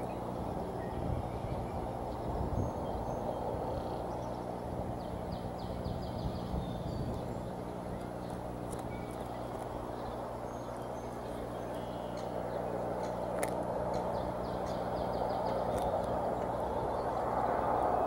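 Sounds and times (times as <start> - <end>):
low rumbling noise: 0.0 - 18.0.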